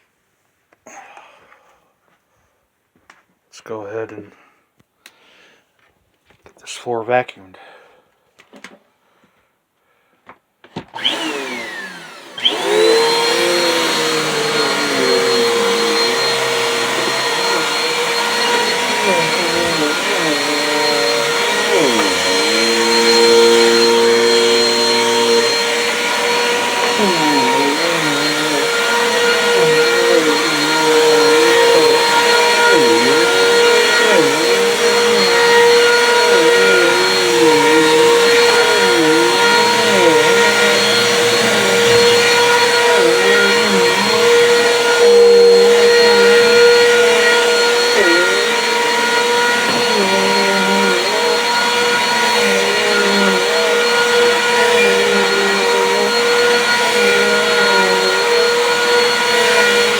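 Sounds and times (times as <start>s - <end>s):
vacuum cleaner on carpet: 10.8s - 59.9s.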